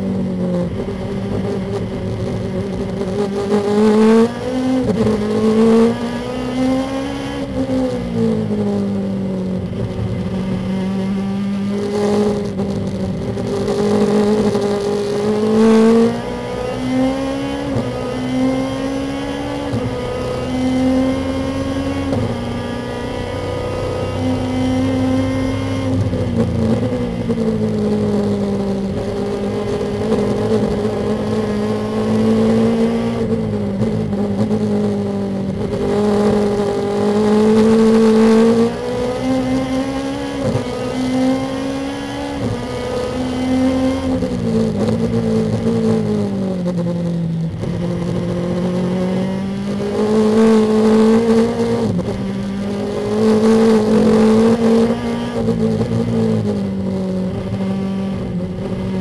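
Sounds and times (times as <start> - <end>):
race car engine from cockpit: 0.0 - 59.0.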